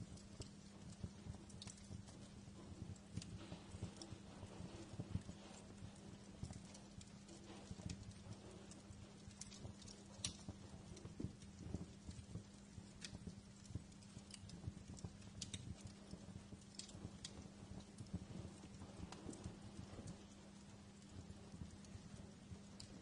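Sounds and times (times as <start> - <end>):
faint low hum: 0.0 - 23.0
wood fire crackling: 0.0 - 23.0.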